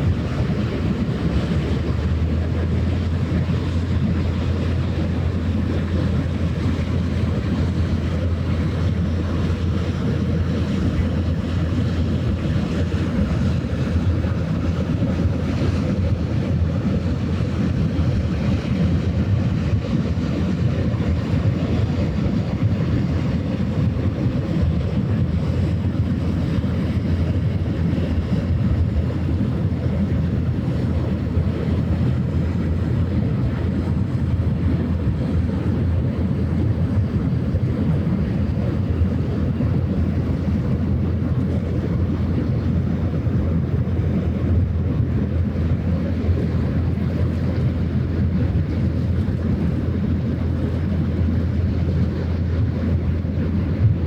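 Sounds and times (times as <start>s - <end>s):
ship engine drone: 0.0s - 54.0s
water noise: 0.0s - 54.0s
wind on microphone: 0.0s - 54.0s.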